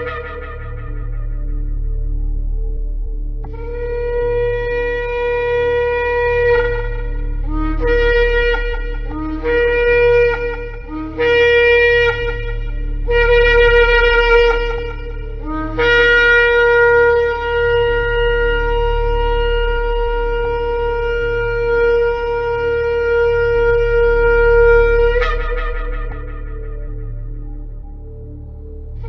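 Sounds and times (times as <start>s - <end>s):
shofar blowing: 0.0s - 29.0s
steady low hum: 0.0s - 29.0s.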